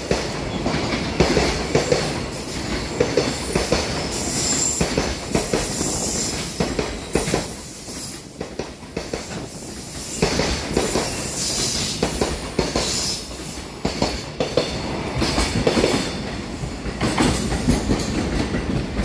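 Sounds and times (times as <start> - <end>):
train wheels clattering over rail joints: 0.0 - 19.0.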